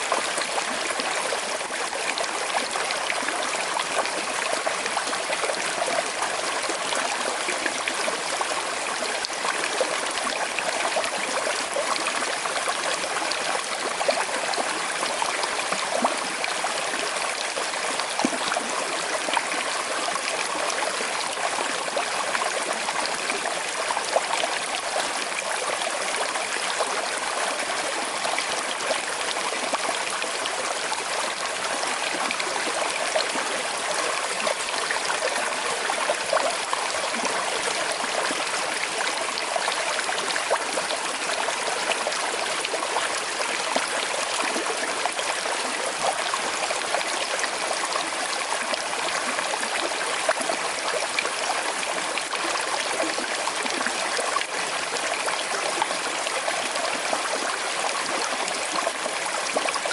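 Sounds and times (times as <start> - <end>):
river water rushing and gurgling: 0.0 - 59.9.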